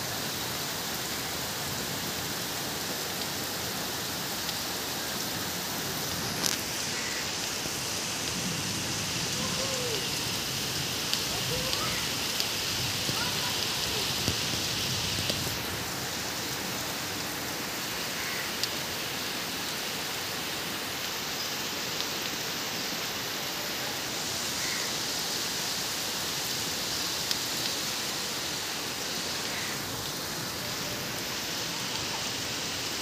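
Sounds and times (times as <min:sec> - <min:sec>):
heavy rain on a flooded street: 0:00.0 - 0:33.0.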